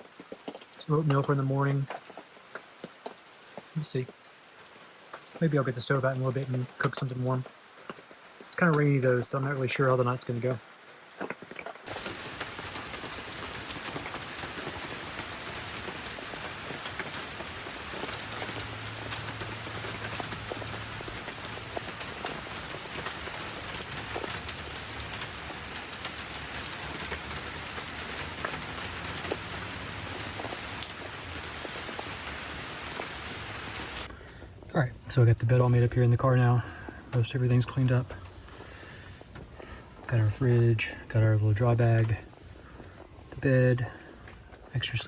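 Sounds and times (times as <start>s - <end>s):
raindrops ticking on a surface: 0.0s - 45.0s
steady rainfall: 0.0s - 45.0s.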